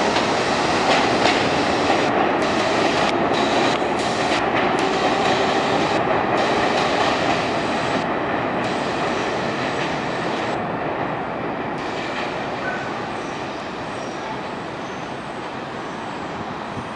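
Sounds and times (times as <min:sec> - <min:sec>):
subway train running on rails: 0:00.0 - 0:16.9.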